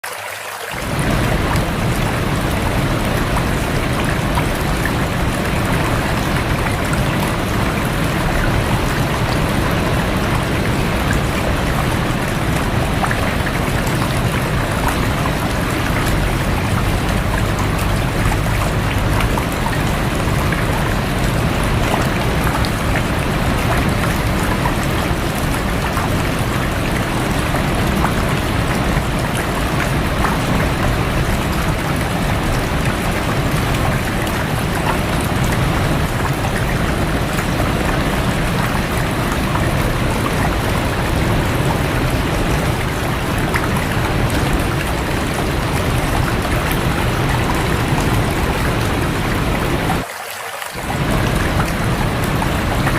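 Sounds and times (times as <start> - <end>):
rain falling on water: 0.0 - 52.9
rushing stream water: 0.0 - 52.9.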